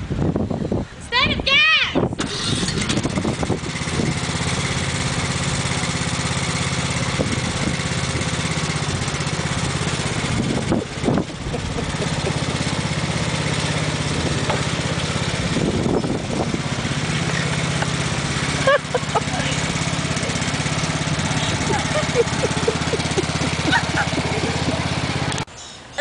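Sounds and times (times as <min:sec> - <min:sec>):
riding lawn mower engine: 0:02.2 - 0:25.5.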